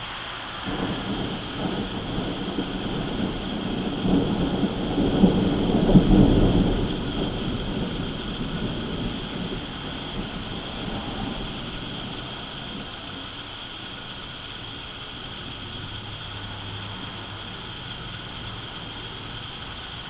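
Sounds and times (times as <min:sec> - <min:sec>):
rolling thunder: 0:00.5 - 0:19.6.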